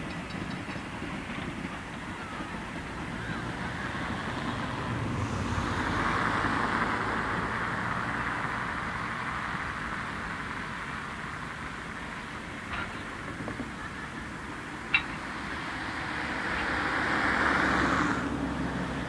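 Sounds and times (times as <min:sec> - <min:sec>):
train passing by: 0:00.0 - 0:19.0.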